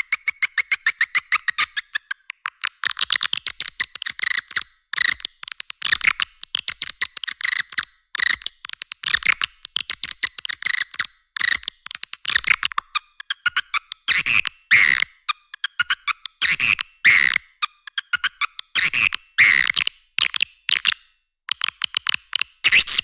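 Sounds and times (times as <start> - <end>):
swiftlet clicks and chirps: 0.0 - 23.0.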